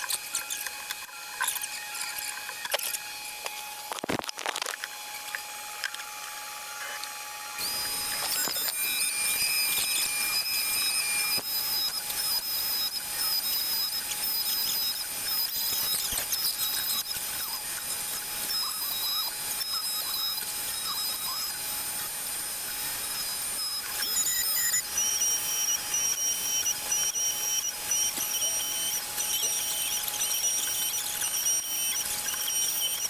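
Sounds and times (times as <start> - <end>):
clicks and squeaks: 0.0 - 33.0
power tool whining: 0.0 - 33.0.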